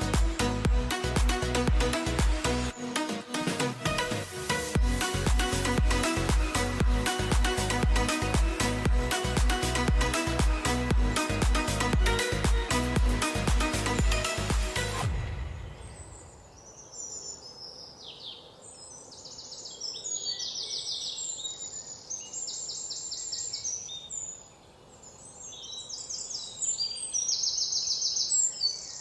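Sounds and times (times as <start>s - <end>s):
birds chirping and trilling: 1.4s - 29.0s.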